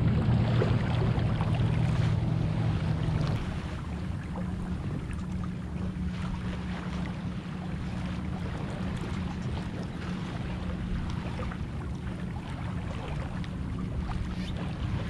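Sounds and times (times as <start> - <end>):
water rushing along hull: 0.0 - 15.0.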